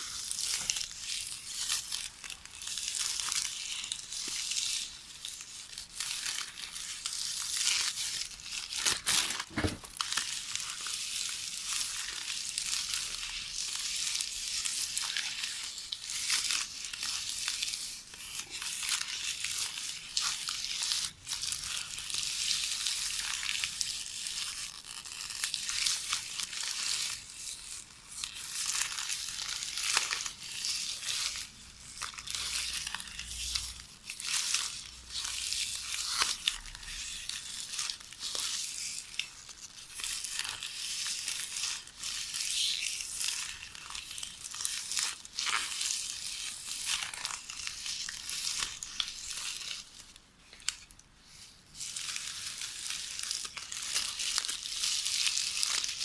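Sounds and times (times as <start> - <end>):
plastic tape rustling and crackling: 0.0 - 56.0.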